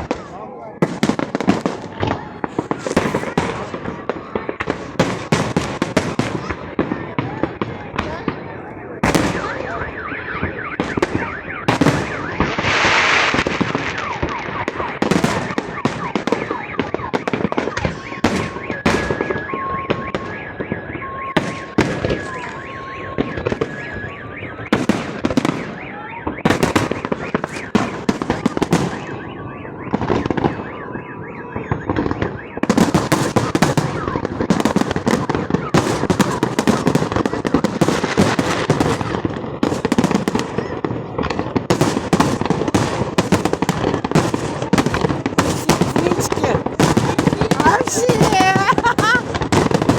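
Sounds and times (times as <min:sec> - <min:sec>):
fireworks bangs and crackle: 0:00.0 - 0:49.9
two-tone car alarm beeping: 0:07.9 - 0:49.9.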